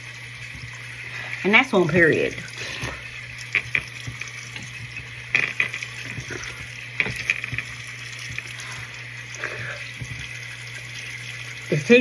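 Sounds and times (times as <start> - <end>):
tap running into sink: 0.0 - 11.7
water splashes: 0.0 - 12.0.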